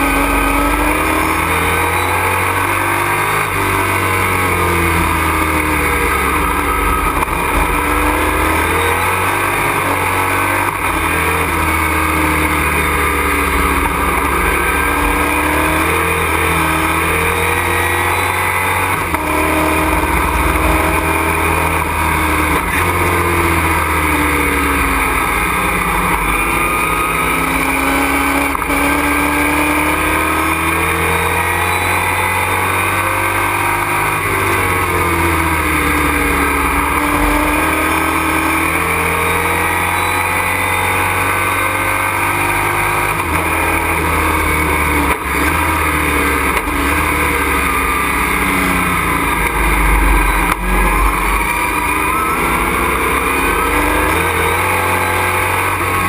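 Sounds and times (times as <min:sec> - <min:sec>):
road and wind noise: 0:00.0 - 0:56.0
truck engine revving: 0:00.0 - 0:56.0.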